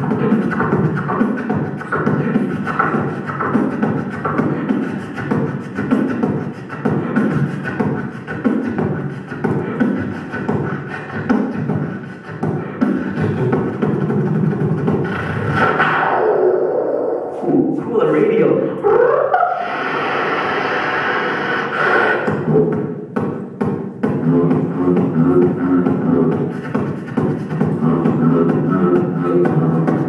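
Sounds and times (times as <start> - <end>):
man beatboxing: 0.0 - 30.0.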